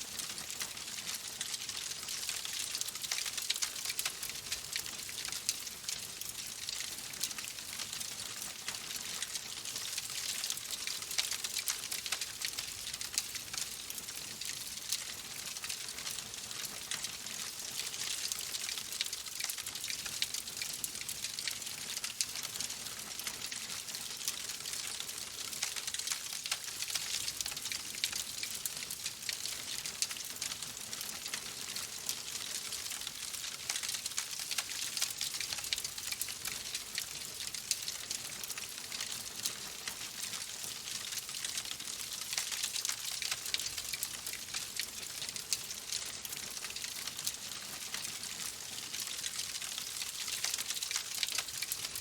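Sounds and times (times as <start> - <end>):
wood fire crackling: 0.1 - 52.0.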